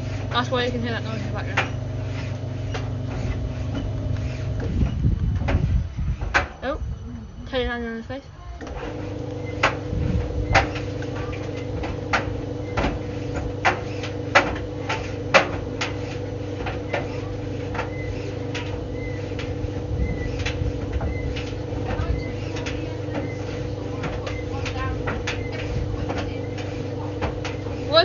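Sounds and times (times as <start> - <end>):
tumble dryer humming: 0.0 - 28.0.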